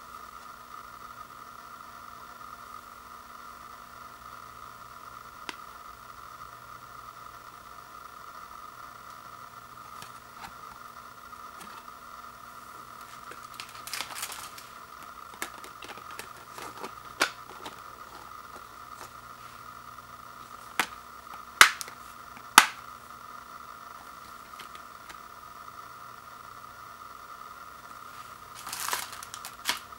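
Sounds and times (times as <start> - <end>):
faint high hum and hiss: 0.0 - 29.9.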